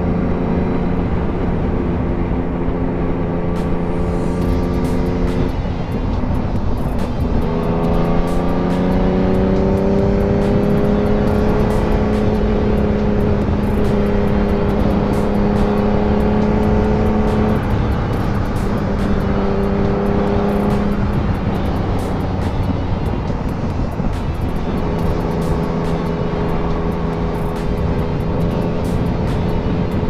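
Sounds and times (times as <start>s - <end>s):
motorcycle engine cruising: 0.0s - 30.0s
wind noise on microphone: 0.0s - 30.0s.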